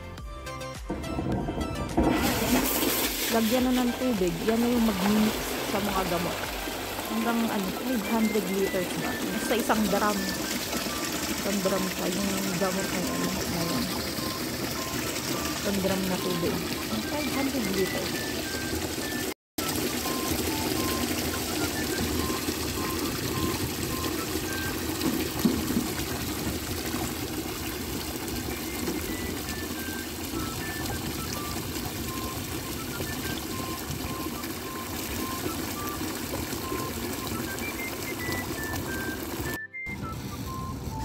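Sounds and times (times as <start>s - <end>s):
hose water rushing into drum: 0.8s - 41.0s.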